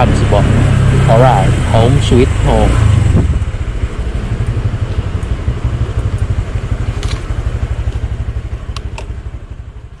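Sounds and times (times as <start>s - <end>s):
scooter engine idling: 0.0s - 10.0s.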